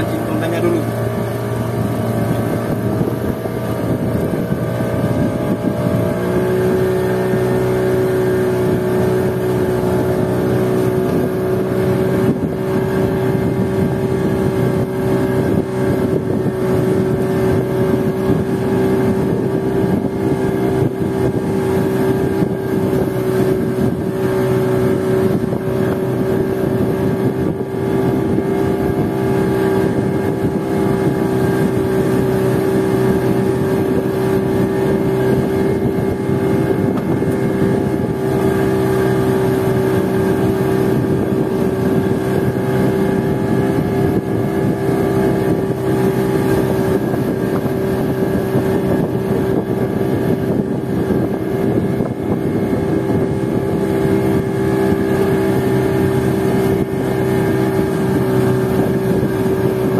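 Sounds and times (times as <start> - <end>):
outboard motor droning: 0.0 - 59.9.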